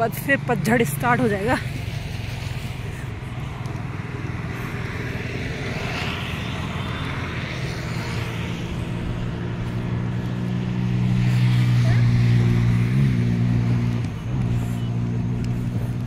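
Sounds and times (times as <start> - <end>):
road traffic hum: 0.0 - 16.0
vehicle approaching: 0.0 - 16.0.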